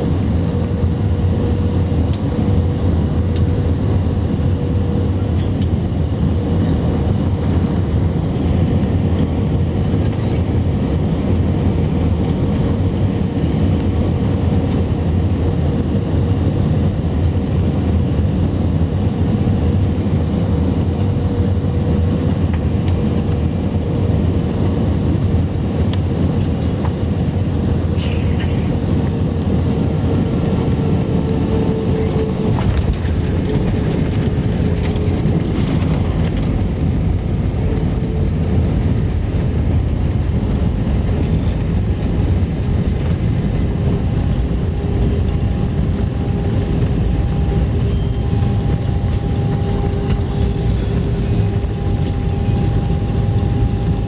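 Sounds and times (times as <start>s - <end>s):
aircraft cabin engine rumble: 0.0s - 54.0s
steady whine: 0.0s - 54.0s.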